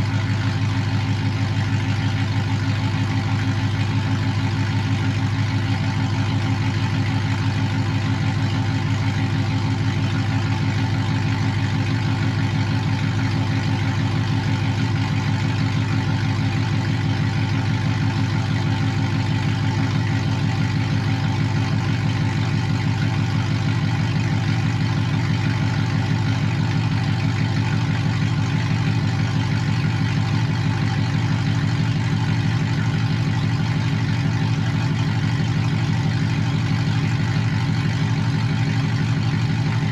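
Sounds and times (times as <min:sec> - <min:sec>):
pickup truck engine idling: 0:00.0 - 0:39.9.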